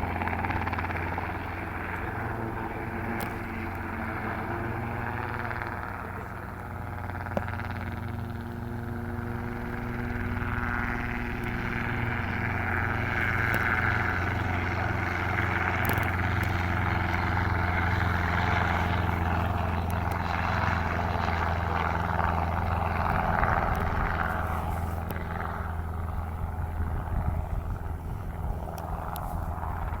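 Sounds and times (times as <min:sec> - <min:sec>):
helicopter rotor beat: 0:00.0 - 0:30.0.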